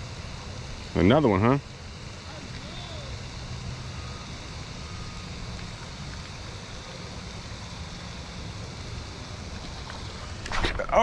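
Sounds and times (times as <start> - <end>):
low outdoor rumble with hiss: 0.0 - 11.0.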